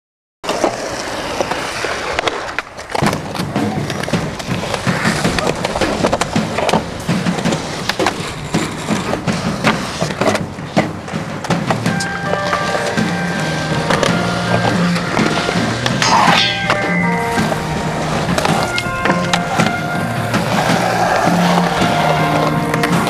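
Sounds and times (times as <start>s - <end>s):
skateboard clacking: 0.4s - 23.0s
skateboard wheels rolling on concrete: 0.4s - 23.0s.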